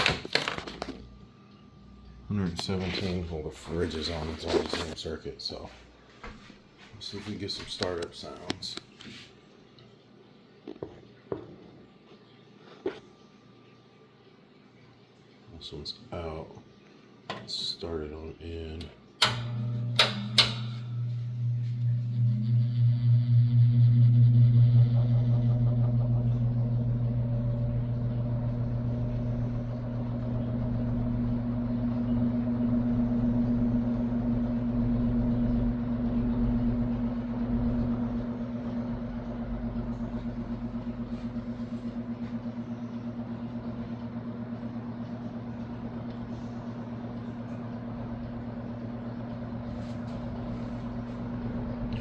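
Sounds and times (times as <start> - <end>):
box fan humming: 0.0 - 9.4, 17.1 - 52.0.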